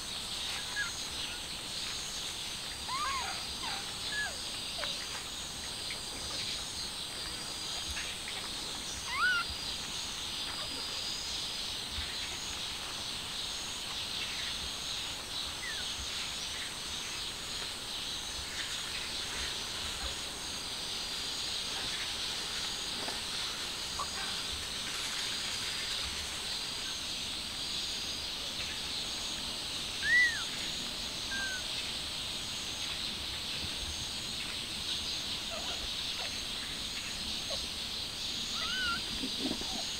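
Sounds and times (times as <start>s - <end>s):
insect chirring trill: 0.0s - 39.9s.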